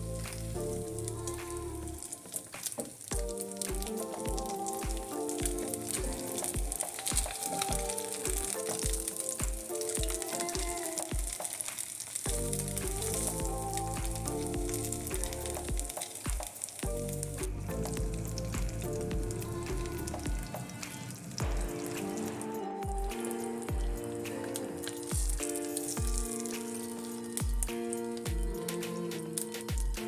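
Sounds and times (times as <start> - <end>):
background music with a beat: 0.0 - 0.8, 1.4 - 30.0
fish sizzling in oil: 0.0 - 30.0.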